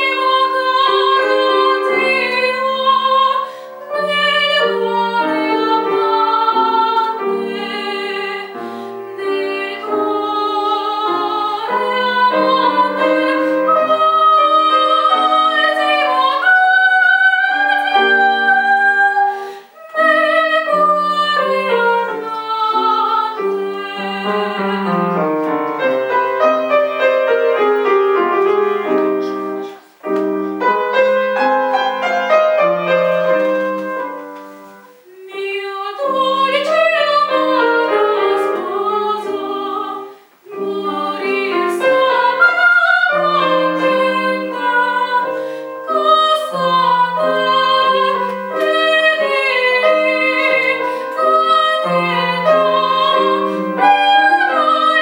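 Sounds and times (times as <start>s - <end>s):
piano accompaniment: 0.0s - 55.0s
woman singing operatic aria: 0.0s - 55.0s.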